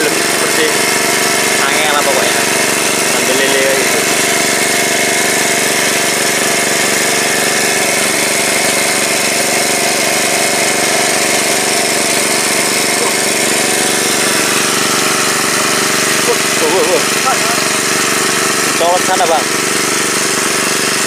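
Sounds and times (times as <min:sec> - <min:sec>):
small engine running steadily: 0:00.0 - 0:21.0.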